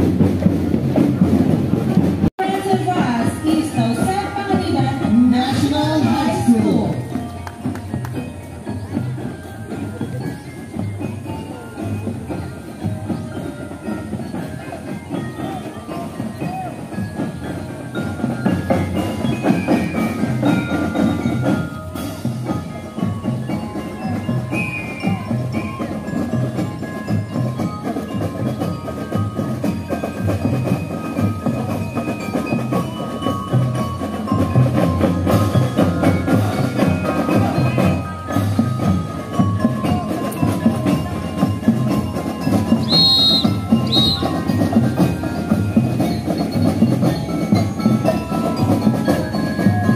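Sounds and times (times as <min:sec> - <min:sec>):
marching drums: 0:00.0 - 0:49.9
bell lyre melody: 0:02.7 - 0:49.9.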